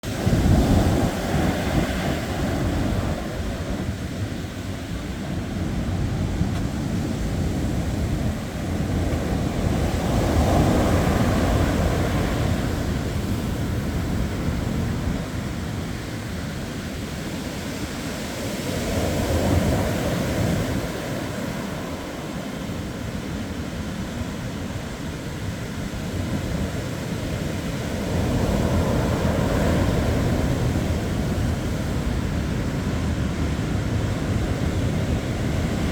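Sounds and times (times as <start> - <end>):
ocean waves breaking on shore: 0.0 - 35.9
wind buffeting microphone: 0.0 - 35.9.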